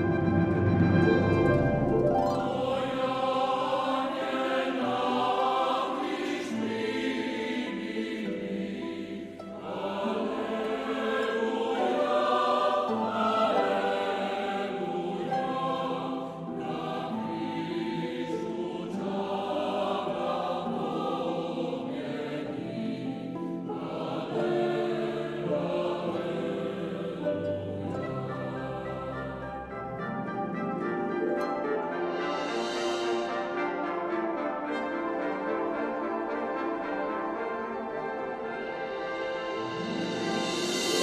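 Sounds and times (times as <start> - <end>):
mixed choir singing: 0.0 - 41.0.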